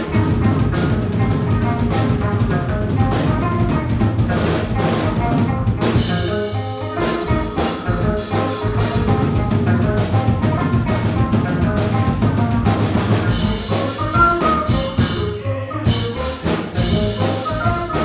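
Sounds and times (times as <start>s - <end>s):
drum kit: 0.0s - 18.0s
live band playing: 0.0s - 18.0s.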